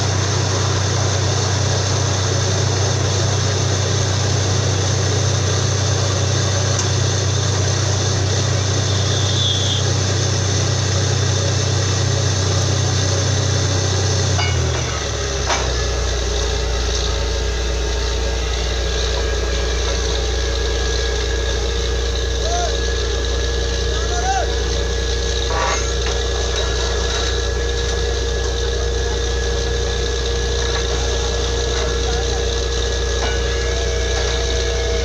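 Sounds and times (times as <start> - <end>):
drilling rig engine running: 0.0 - 35.0.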